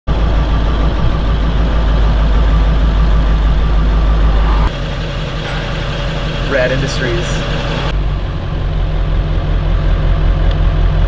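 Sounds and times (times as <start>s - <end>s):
vehicle engine rumble: 0.1s - 11.0s.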